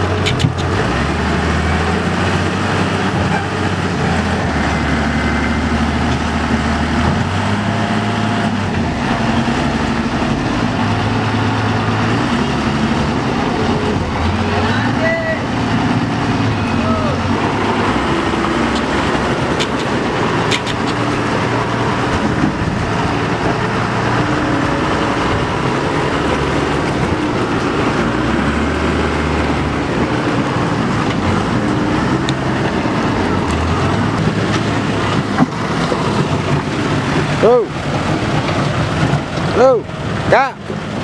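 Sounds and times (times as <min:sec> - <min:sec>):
heavy diesel engines running: 0:00.0 - 0:41.0.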